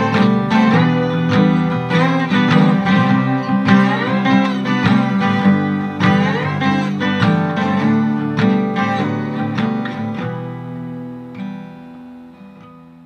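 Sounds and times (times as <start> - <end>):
country guitar music: 0.0 - 13.0.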